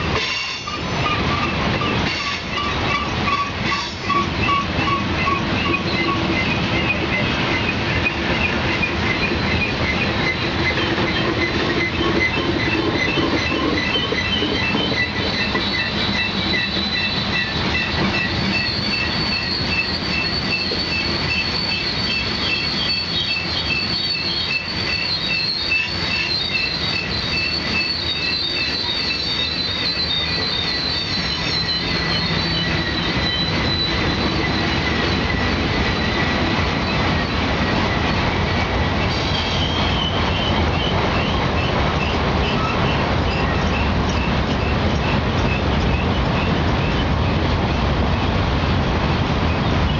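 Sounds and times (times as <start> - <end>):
steel wheels squealing: 0.0 - 47.5, 49.4 - 49.9
train rumbling and clacking on rails: 0.0 - 49.9.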